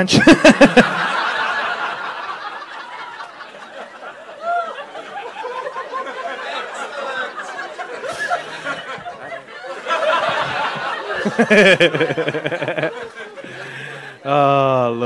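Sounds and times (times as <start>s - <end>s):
audience laughing: 0.1s - 14.2s.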